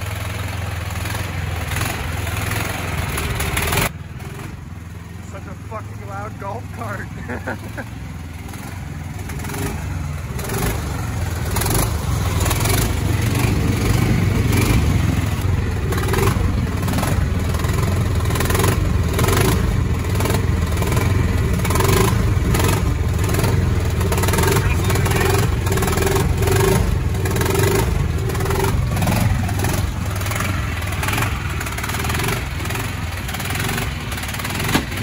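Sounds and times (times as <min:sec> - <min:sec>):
golf cart engine running: 0:00.0 - 0:35.0.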